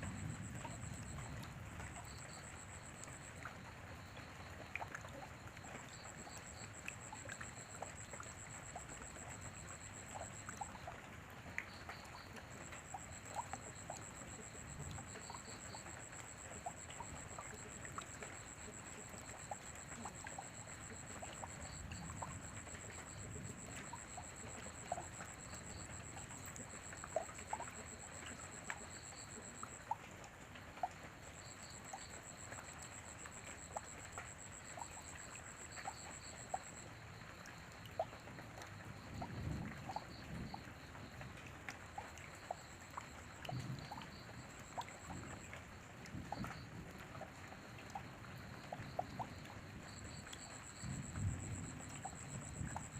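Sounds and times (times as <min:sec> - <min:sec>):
drips ticking: 0:00.0 - 0:52.9
steady rain: 0:00.0 - 0:52.9.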